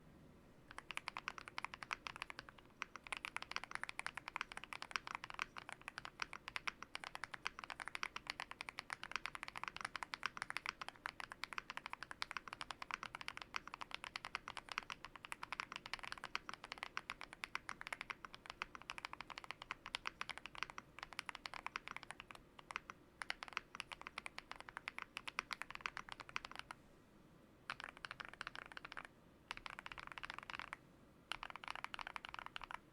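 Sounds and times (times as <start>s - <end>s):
typing on mechanical keyboard: 0.7s - 26.8s, 27.7s - 32.9s.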